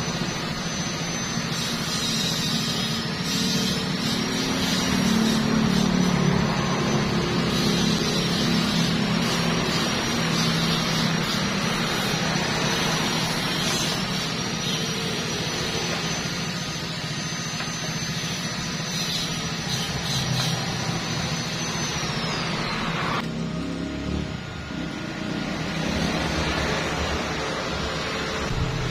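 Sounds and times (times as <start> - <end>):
welding arc crackling: 0.0 - 23.5
high whine: 0.0 - 28.9.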